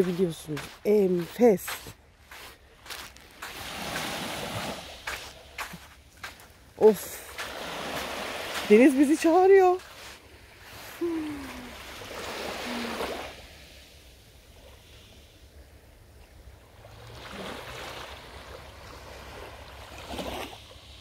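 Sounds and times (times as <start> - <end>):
small waves washing onto beach: 0.0 - 21.0.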